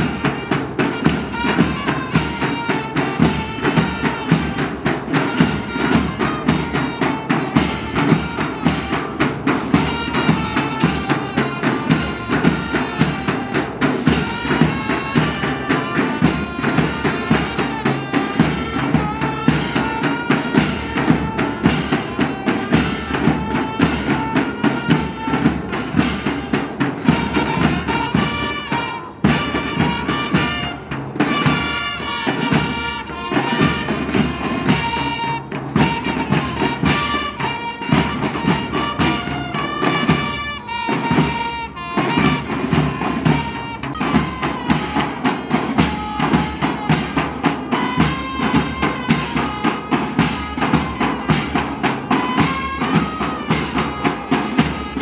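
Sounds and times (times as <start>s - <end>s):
reedy wind instrument melody: 0.0s - 55.0s
steady drum beat: 0.0s - 55.0s.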